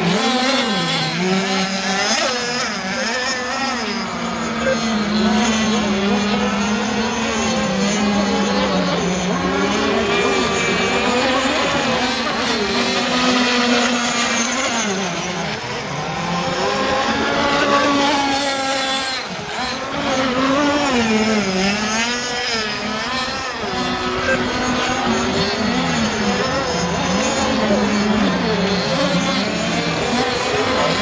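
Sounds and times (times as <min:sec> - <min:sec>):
racing boat engines whining: 0:00.0 - 0:31.0.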